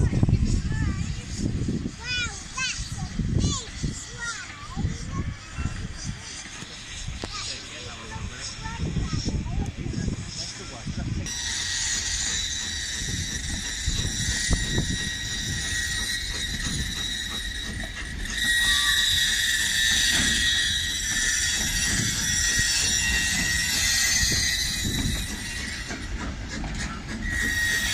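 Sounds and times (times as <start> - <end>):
low rumble of wagons: 0.0 - 27.9
wheel flanges squealing: 2.0 - 27.9.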